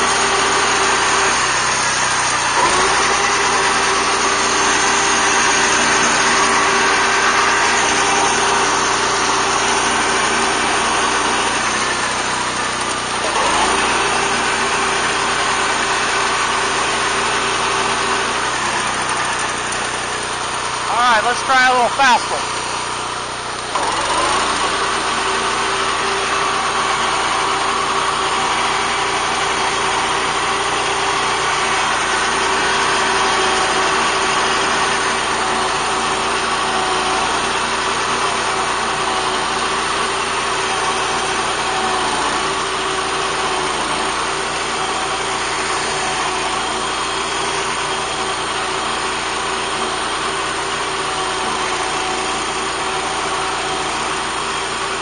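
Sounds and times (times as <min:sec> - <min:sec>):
tractor engine mowing grass: 0:00.0 - 0:55.0.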